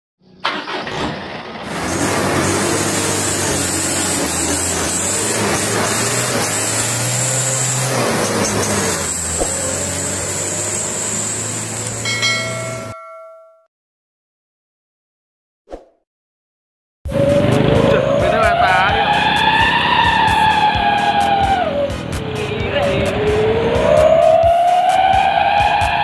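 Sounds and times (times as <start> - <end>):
loud truck engine running: 0.4 - 13.0, 17.1 - 25.6.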